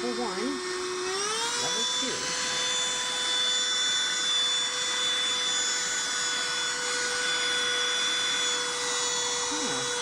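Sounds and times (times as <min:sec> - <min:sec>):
handheld vacuum whining: 0:00.0 - 0:10.0.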